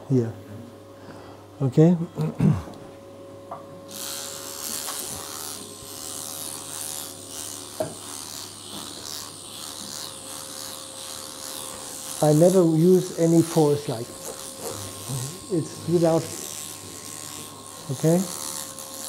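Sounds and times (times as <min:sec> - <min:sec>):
low equipment hum: 0:00.0 - 0:19.0.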